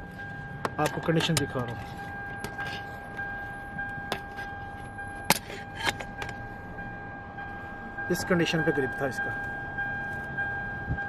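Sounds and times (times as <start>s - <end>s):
steady high-pitched hum: 0.0s - 11.0s.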